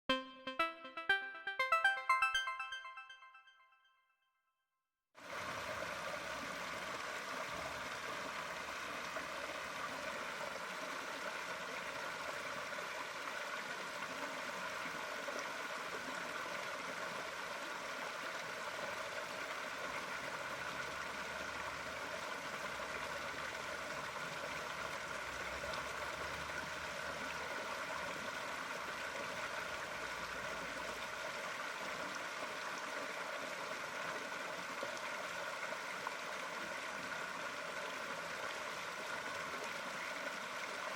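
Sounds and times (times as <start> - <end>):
flowing water babbling: 5.2 - 40.9.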